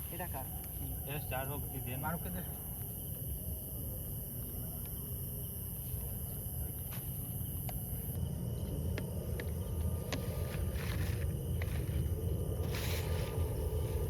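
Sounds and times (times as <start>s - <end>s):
night insects trilling: 0.0s - 14.0s.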